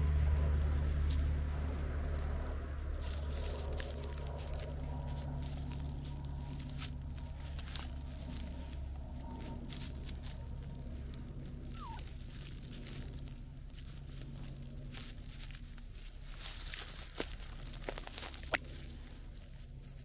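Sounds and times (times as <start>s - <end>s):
dry grass rustling and crackling: 0.0s - 20.0s
low steady rumble: 0.0s - 20.0s.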